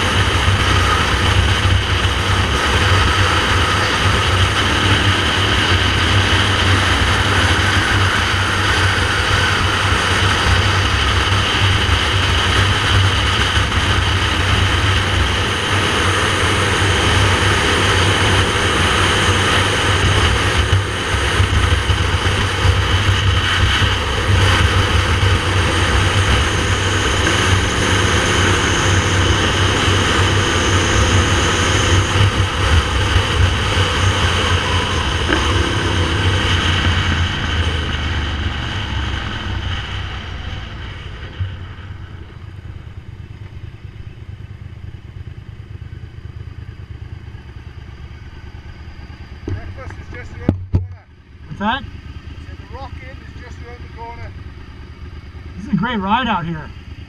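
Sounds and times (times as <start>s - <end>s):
wind rushing over microphone: 0.0s - 51.6s
motorcycle engine running: 0.0s - 57.0s.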